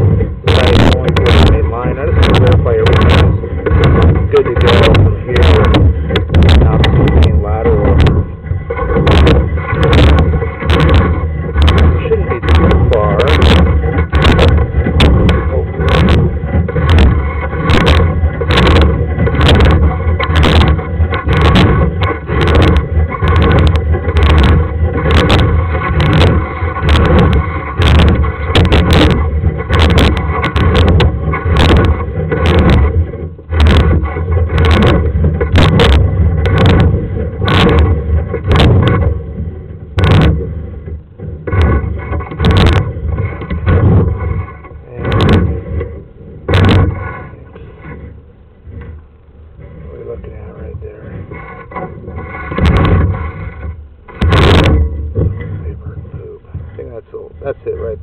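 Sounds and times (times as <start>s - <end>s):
cable rod clacking and scraping: 0.0s - 58.0s
steady low rumble: 0.0s - 58.0s.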